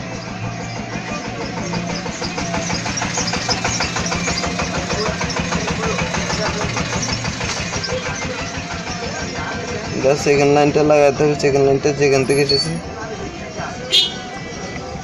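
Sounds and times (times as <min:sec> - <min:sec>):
engine running with pulsing hum: 0:00.0 - 0:15.0.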